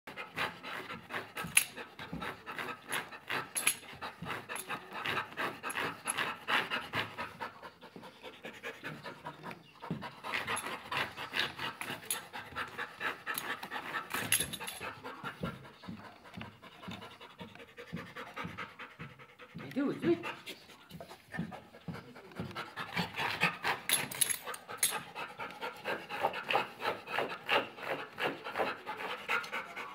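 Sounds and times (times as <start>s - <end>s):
dog panting rapidly: 0.1s - 29.9s.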